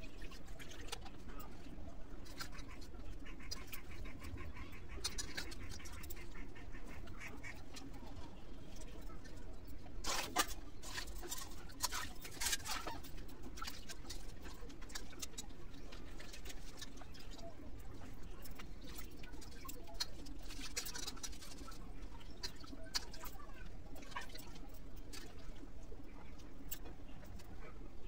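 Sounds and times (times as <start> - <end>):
water sloshing and dripping: 0.0 - 28.0.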